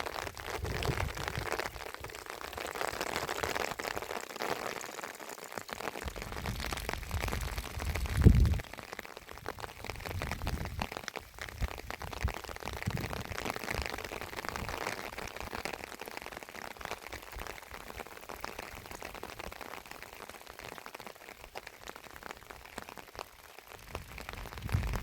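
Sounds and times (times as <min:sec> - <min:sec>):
raindrops striking: 0:00.0 - 0:25.0
steady rain hiss: 0:00.0 - 0:25.0.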